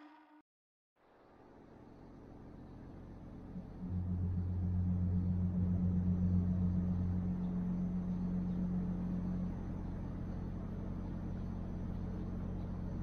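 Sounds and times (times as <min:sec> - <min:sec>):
low mechanical hum: 0:01.0 - 0:13.0.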